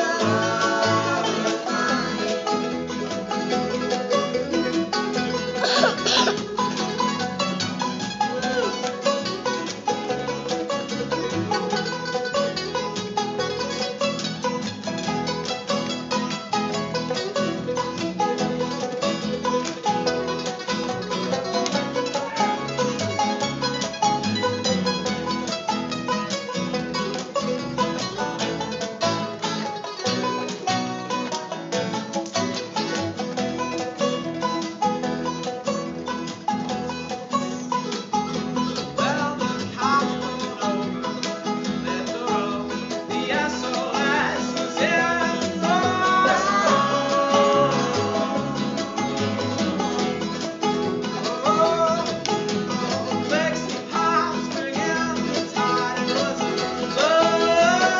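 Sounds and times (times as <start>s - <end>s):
live band playing: 0.0s - 57.9s
rapid plucked-string picking: 0.0s - 57.9s.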